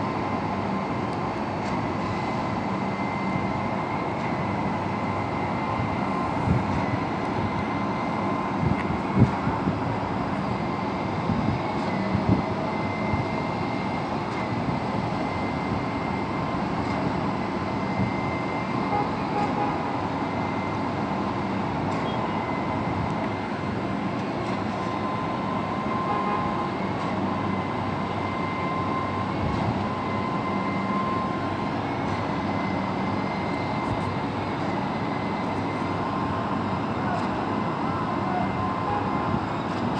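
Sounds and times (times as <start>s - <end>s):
heavy machinery engines running: 0.0s - 39.9s.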